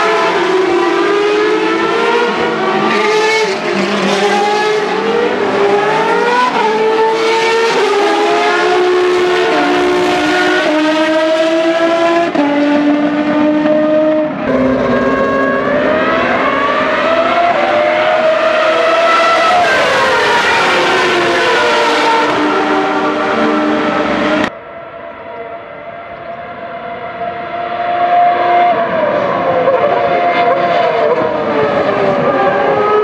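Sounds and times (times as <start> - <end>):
racing car engines at high revs: 0.0 - 24.5, 26.8 - 33.0.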